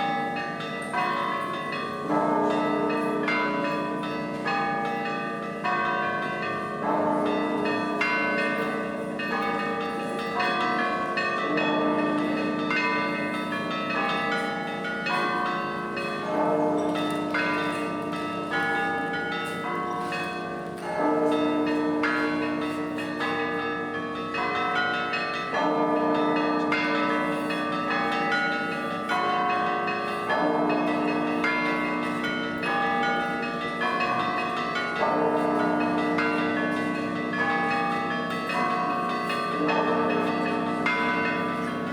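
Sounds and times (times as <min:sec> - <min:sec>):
church bells ringing: 0:00.0 - 0:41.9.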